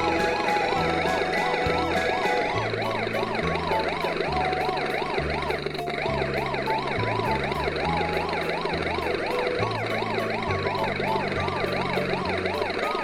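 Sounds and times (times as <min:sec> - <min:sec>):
background music with bass line: 0:00.0 - 0:13.0
wailing siren: 0:00.0 - 0:13.0.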